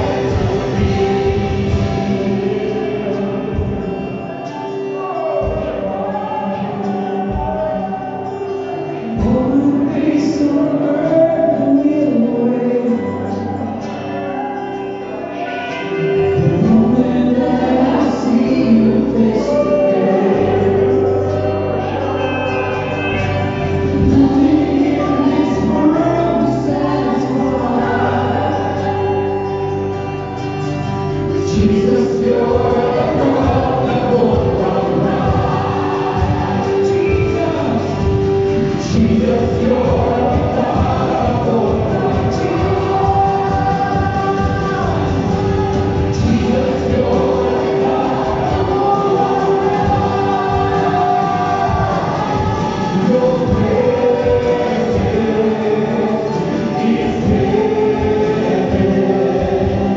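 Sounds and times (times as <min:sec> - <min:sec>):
acoustic guitar: 0:00.0 - 0:59.9
group singing together: 0:00.0 - 0:59.9
keyboard: 0:00.0 - 0:59.9.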